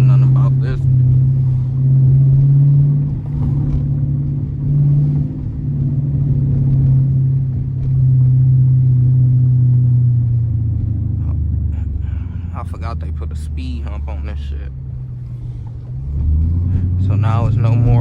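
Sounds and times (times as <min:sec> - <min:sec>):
car engine and exhaust droning: 0:00.0 - 0:18.0.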